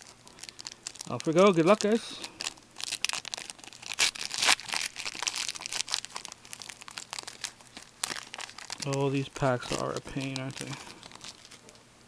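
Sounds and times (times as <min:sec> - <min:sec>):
card pack wrappers tearing: 0:00.0 - 0:11.7.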